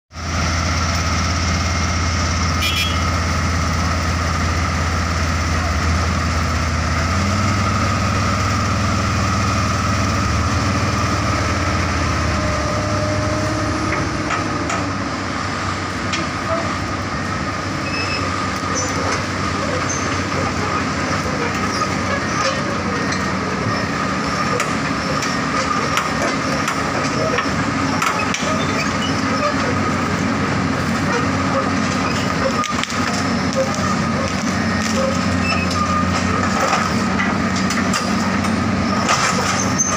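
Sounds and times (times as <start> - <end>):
diesel engine droning: 0.1 - 39.9.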